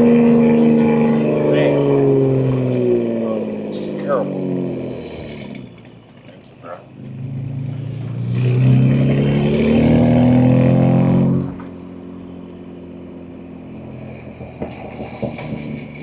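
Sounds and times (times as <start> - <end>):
car engine and exhaust accelerating: 0.0 - 16.0.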